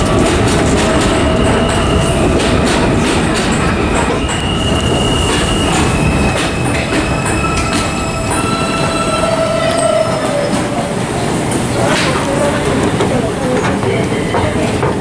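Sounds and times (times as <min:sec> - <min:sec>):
subway train noise: 0:00.0 - 0:15.0.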